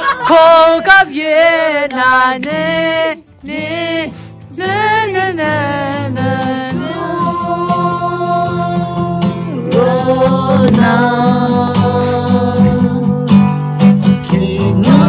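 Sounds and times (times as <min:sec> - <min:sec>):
person singing a melody: 0:00.1 - 0:15.0
musical accompaniment: 0:02.4 - 0:15.0.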